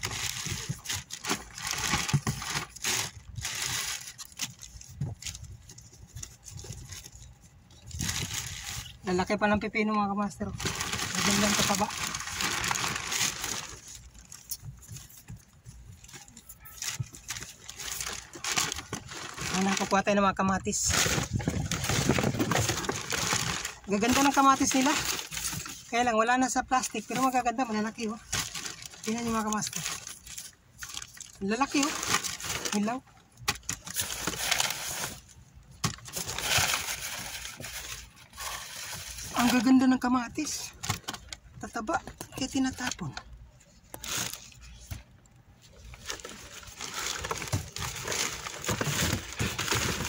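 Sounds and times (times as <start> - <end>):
plastic bags rustling: 0.0 - 45.0, 45.6 - 50.0.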